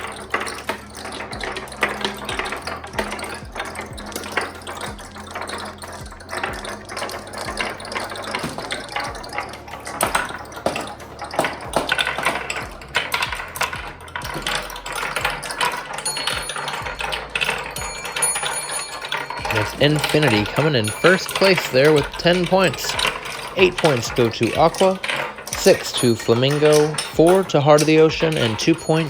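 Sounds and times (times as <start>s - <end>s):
marbles clattering down a track: 0.0s - 29.0s.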